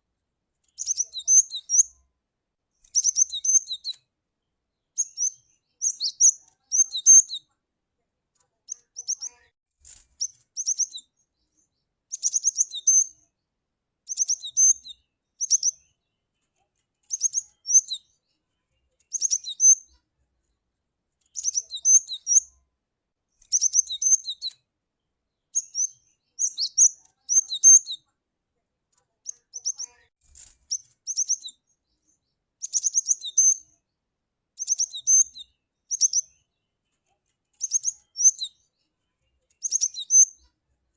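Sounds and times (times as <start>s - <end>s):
bird chirping: 0.6s - 2.1s, 2.8s - 7.5s, 8.4s - 13.4s, 14.0s - 22.6s, 23.3s - 28.2s, 29.0s - 33.9s, 34.6s - 40.8s.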